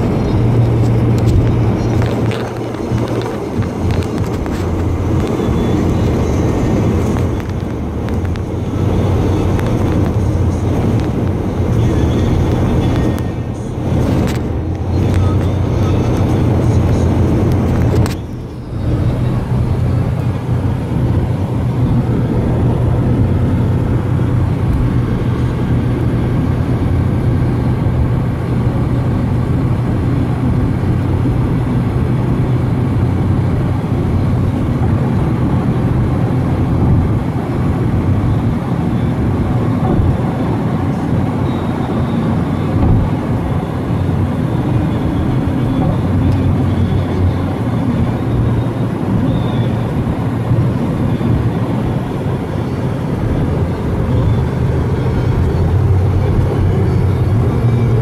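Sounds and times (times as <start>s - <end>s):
car cabin road and engine drone: 0.0s - 58.0s.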